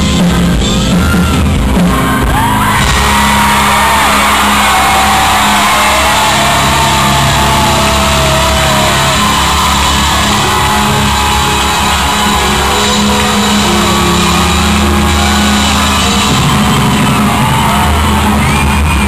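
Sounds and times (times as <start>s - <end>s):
live pop-rock band playing: 0.0s - 19.0s.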